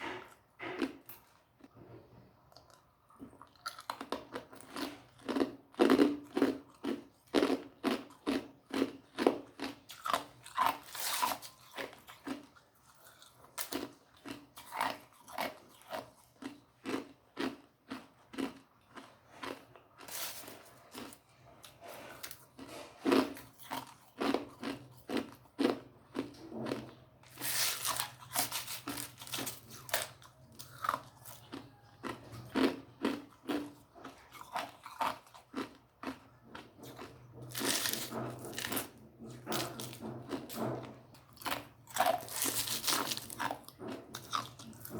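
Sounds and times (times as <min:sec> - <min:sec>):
ice cubes crunching in mouth: 0:03.5 - 0:21.2, 0:22.2 - 0:38.9, 0:41.3 - 0:44.9.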